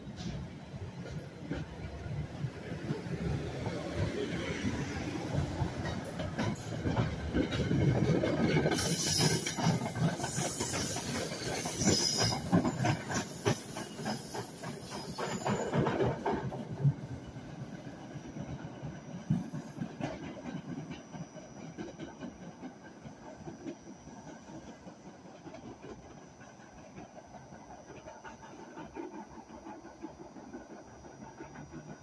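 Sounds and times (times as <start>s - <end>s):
hissing rush of passing train: 0.0s - 32.0s
train wheels clicking over rail joints: 0.1s - 32.0s.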